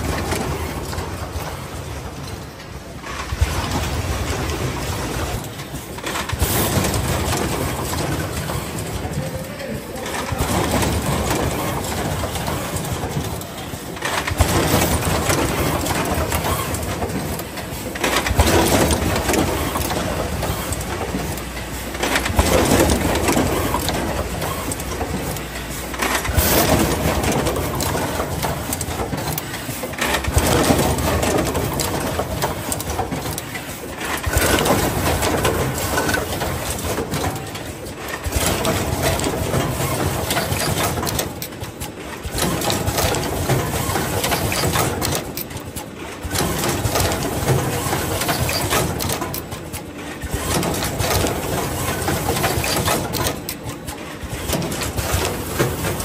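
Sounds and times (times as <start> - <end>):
cable conveyor running: 0.0 - 56.0
crimping machine clattering: 0.0 - 56.0.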